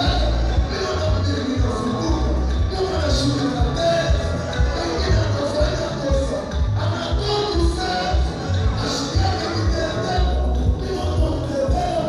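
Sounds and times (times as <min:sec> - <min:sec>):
live band music: 0:00.0 - 0:12.0
pulsing bass beat: 0:00.0 - 0:12.0.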